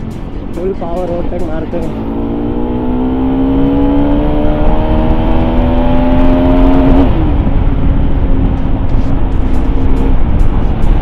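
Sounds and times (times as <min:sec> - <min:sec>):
heavy wind noise: 0:00.0 - 0:11.0
motorcycle engine at full throttle: 0:00.0 - 0:11.0.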